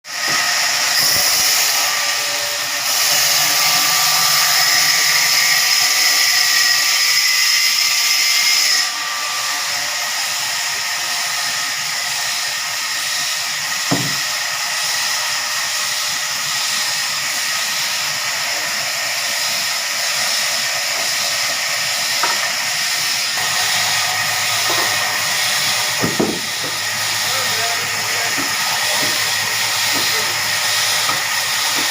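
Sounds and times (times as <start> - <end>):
saw whining through log: 0.1 - 31.9.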